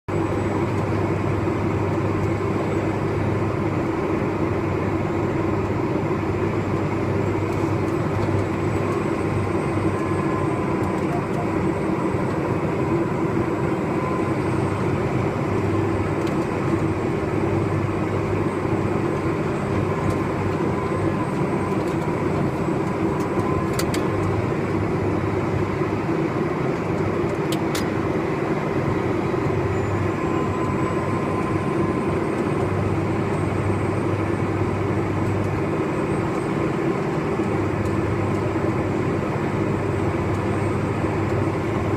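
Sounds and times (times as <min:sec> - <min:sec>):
faint engine whine: 0:00.1 - 0:41.9
tractor engine droning: 0:00.1 - 0:41.9.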